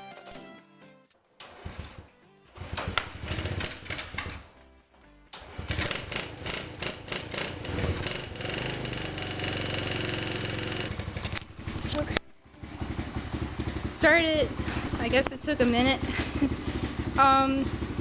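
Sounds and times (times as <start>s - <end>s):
motorcycle engine starting and running: 1.4s - 4.6s, 5.3s - 18.0s.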